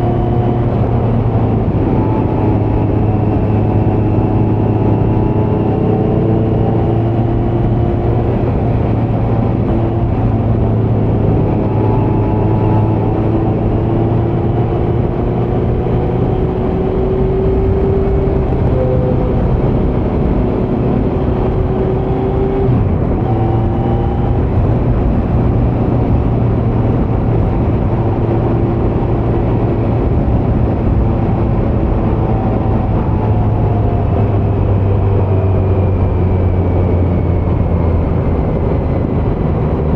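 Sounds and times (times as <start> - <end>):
motorcycle engine running: 0.0 - 39.5.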